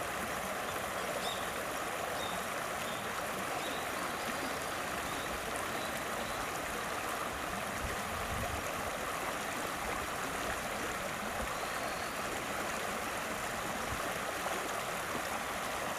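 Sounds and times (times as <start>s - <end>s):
river water rushing: 0.0s - 15.9s.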